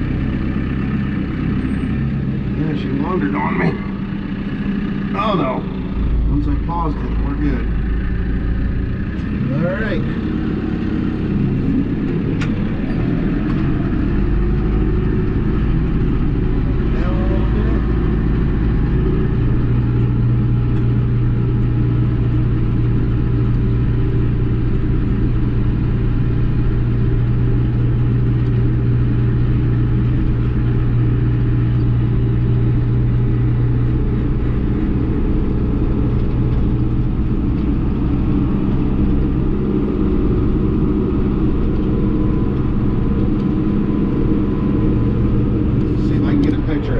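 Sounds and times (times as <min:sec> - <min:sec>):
tractor diesel engine droning: 0:00.0 - 0:46.9.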